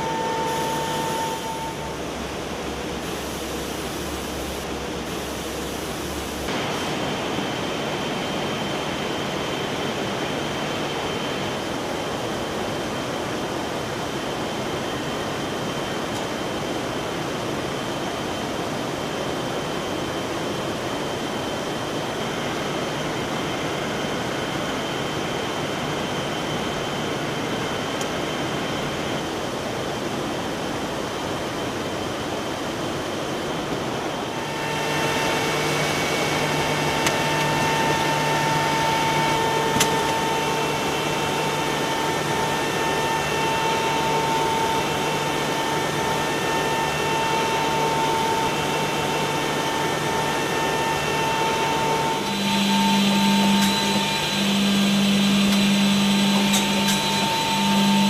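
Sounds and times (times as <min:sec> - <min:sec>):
machine air hiss and motor noise: 0:00.0 - 0:58.0
steady whine: 0:00.0 - 0:58.0.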